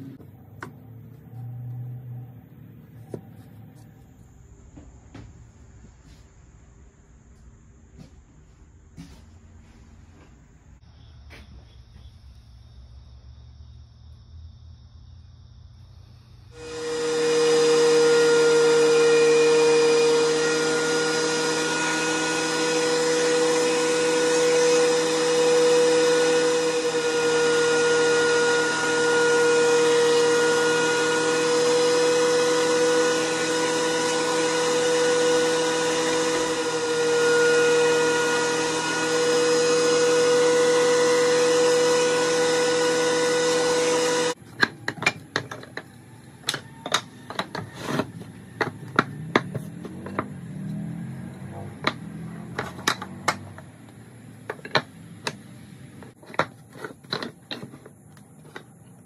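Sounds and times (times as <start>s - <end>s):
thickness planer whining: 0.0s - 6.4s, 16.4s - 59.0s.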